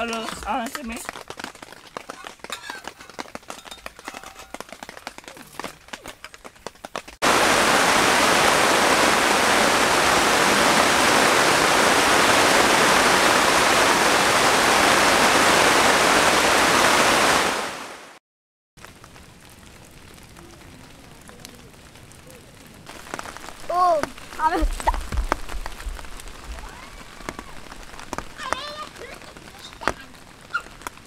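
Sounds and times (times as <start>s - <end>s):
heavy rain pouring: 0.0s - 18.2s, 18.8s - 31.0s.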